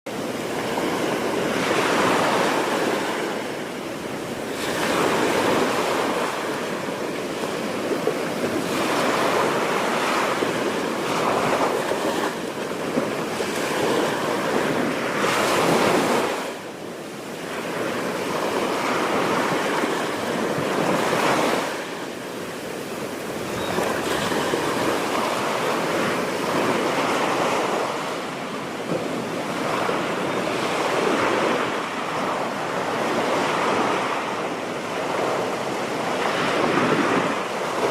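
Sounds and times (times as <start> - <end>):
waves breaking on beach: 0.1 - 37.9
wind buffeting microphone: 0.1 - 37.9.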